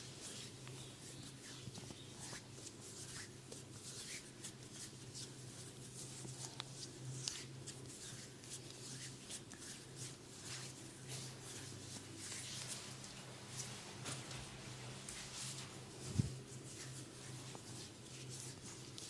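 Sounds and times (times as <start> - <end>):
hands brushing skin: 0.0 - 19.0
steady low hum: 0.0 - 19.0.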